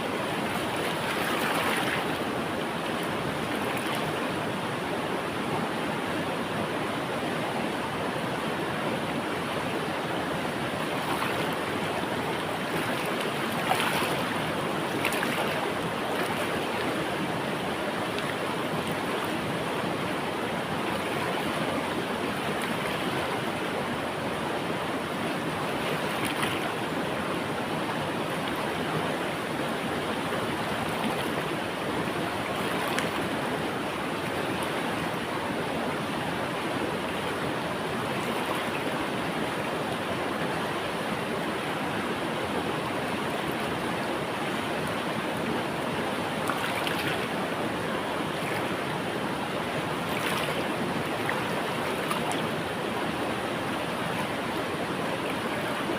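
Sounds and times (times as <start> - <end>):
water splashes: 0.0 - 4.4, 9.5 - 24.2, 25.0 - 55.9
river water rushing: 0.0 - 55.9.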